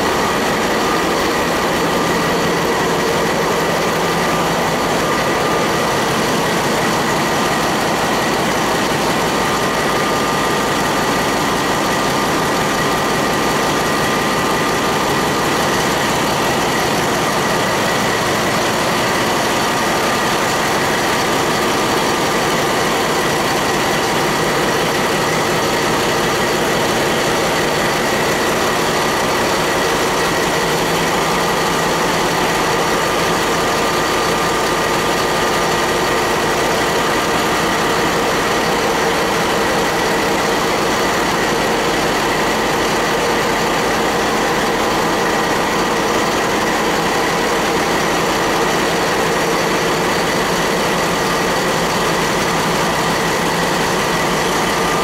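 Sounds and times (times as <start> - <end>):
diesel engine running loud: 0.0 - 55.0.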